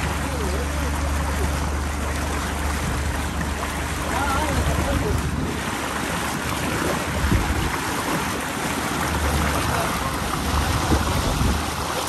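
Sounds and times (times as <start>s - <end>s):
water rushing past boat: 0.0s - 12.0s
wind buffeting microphone: 1.8s - 12.0s.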